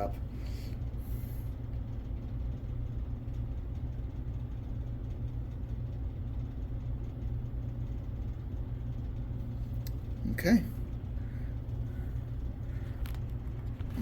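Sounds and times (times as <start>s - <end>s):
computer fans humming: 0.0s - 14.0s.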